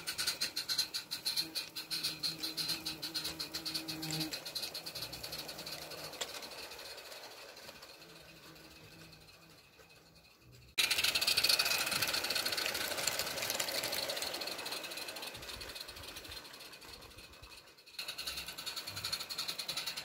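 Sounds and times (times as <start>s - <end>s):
steam locomotive running: 0.0s - 20.0s
wagons rattling on track: 0.0s - 20.0s.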